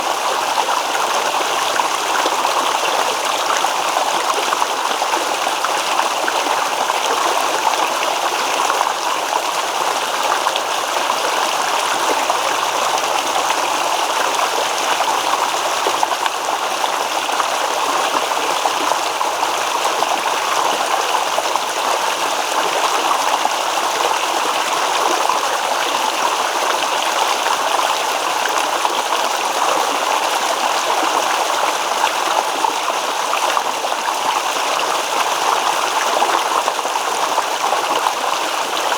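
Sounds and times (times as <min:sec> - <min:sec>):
stream water rippling over stones: 0:00.0 - 0:38.9.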